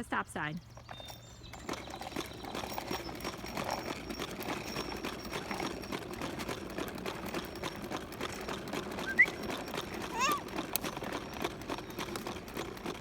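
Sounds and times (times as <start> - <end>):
lawnmower running: 0.1 - 13.0.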